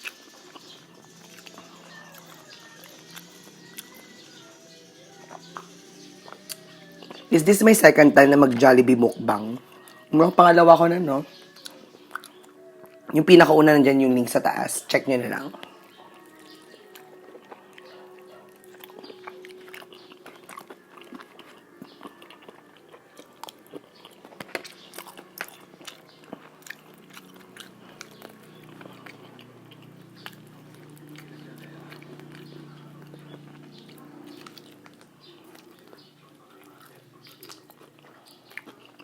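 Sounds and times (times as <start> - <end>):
crunching fried chicken: 0.0 - 7.6, 11.2 - 13.1, 15.5 - 39.0
wet chewing: 0.0 - 13.2, 15.5 - 39.0.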